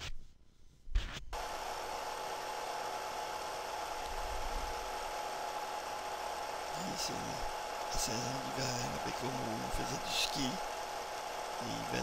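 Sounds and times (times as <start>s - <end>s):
film projector whirring: 1.4s - 12.0s.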